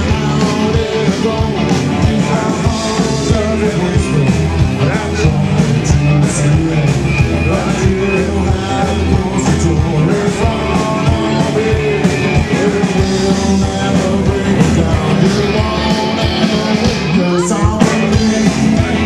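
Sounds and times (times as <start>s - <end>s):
drum beat: 0.0s - 19.0s
electric guitar: 0.0s - 19.0s
person singing: 0.0s - 19.0s.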